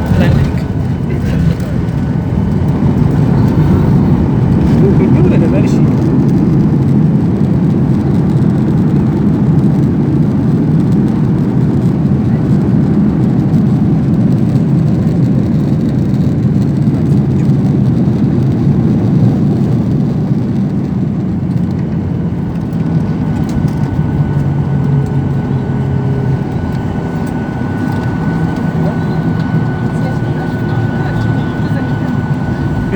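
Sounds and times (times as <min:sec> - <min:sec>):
jet cabin rumble: 0:00.0 - 0:32.9.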